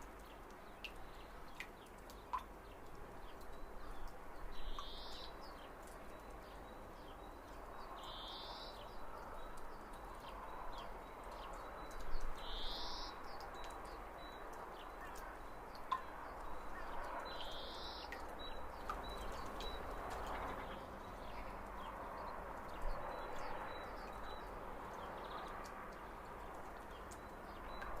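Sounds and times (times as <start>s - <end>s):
soft steady hiss: 0.0s - 28.0s.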